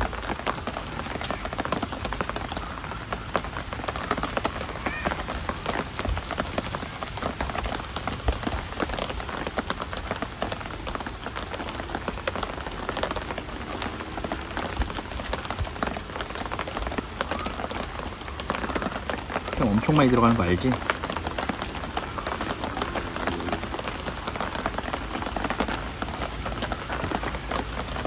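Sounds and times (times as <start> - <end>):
raindrops ticking on surfaces: 0.0 - 28.0
steady rain falling: 0.0 - 28.0.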